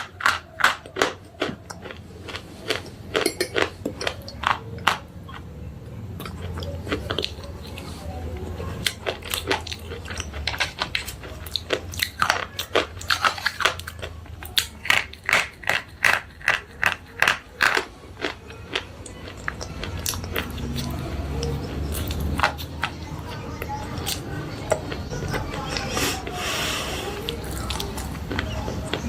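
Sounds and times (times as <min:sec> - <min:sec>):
person chewing crisp crunches: 0:00.0 - 0:29.0.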